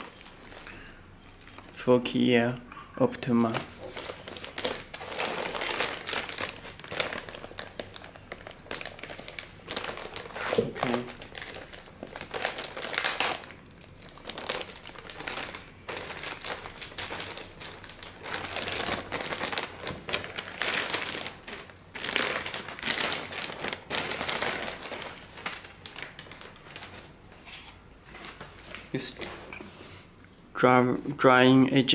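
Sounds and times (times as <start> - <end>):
plastic bag crinkling: 0.0 - 2.3, 3.2 - 29.5.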